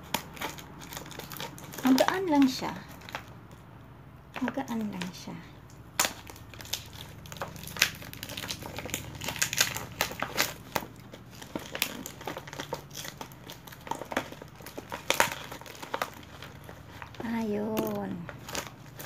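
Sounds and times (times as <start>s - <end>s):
paper crinkling and rustling: 0.0s - 3.4s, 5.9s - 19.0s.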